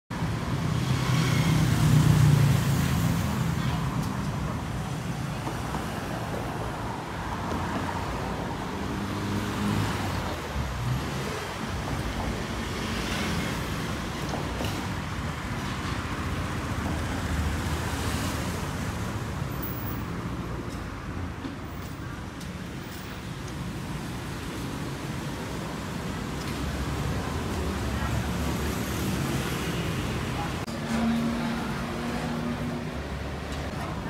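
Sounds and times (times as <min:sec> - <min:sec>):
cars driving on road: 0:00.1 - 0:34.0.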